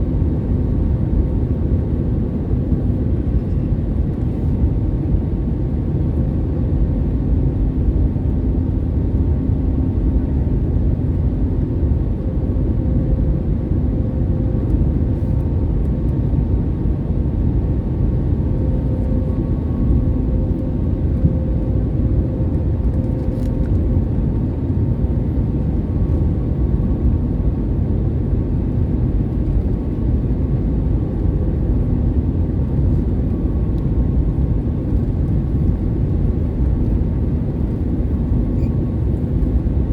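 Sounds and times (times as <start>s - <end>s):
aircraft wheels rumbling on runway: 0.0s - 39.9s.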